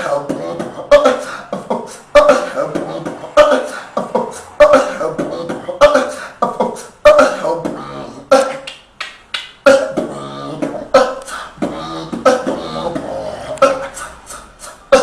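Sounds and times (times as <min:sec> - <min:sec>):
person beatboxing: 0:00.0 - 0:15.0.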